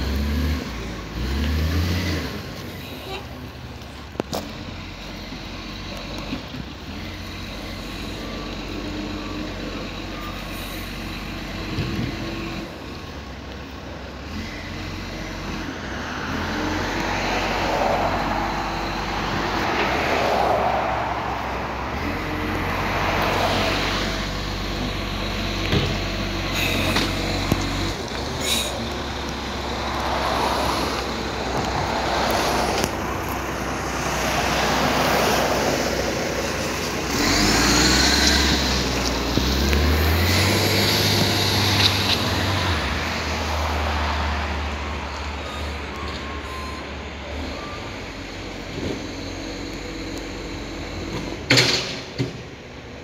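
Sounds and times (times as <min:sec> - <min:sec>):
garbage truck diesel engine: 0:00.0 - 0:53.0
tyre noise of passing cars: 0:00.0 - 0:53.0.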